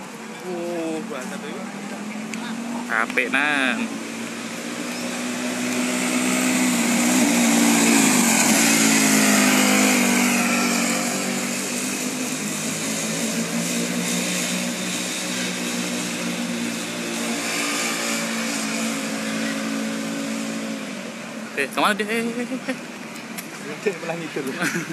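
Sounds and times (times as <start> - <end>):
race car engine passing: 0.0 - 24.9.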